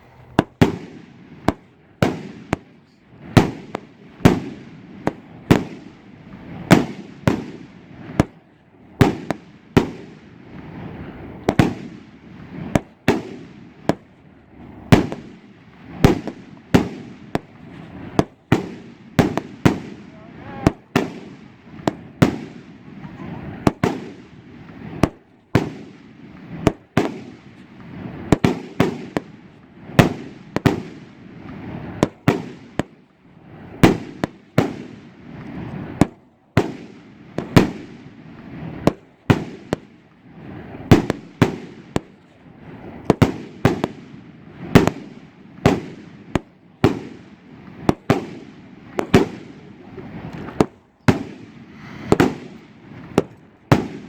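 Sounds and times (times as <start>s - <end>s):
firework shells bursting with bangs: 0.0s - 54.0s.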